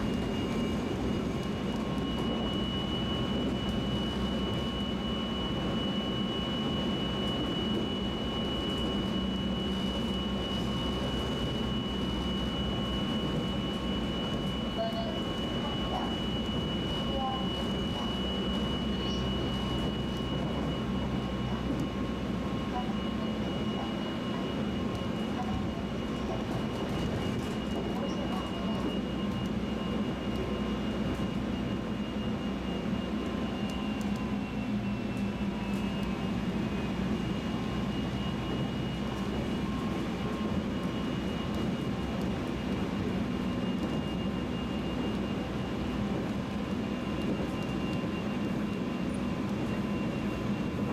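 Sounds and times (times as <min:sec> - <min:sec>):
high-pitched inverter whine: 0:00.0 - 0:50.9
train low rumble: 0:00.0 - 0:50.9.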